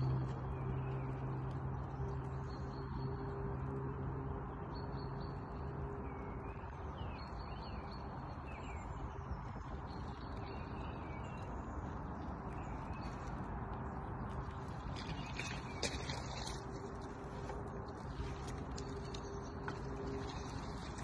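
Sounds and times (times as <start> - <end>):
small songbirds chirping: 0.0 - 21.0.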